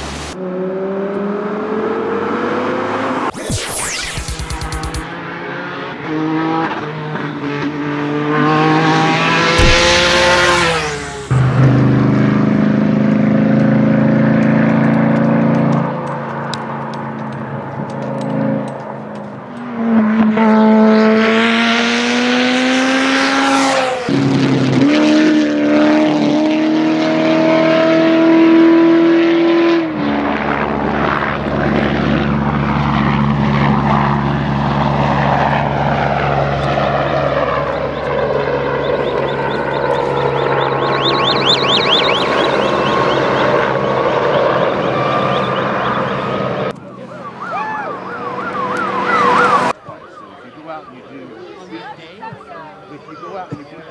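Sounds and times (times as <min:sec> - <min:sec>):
race car engines accelerating: 0:00.0 - 0:53.9.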